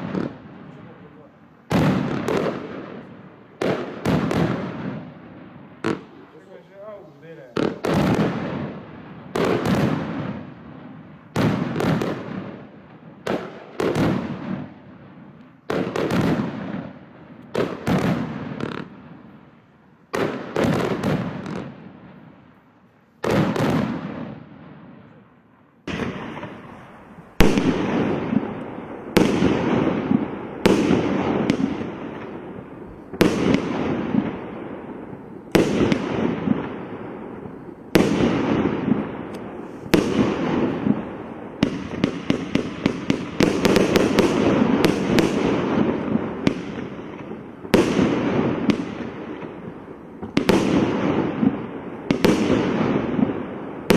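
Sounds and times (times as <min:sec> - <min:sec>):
fireworks banging: 0:00.0 - 0:53.9.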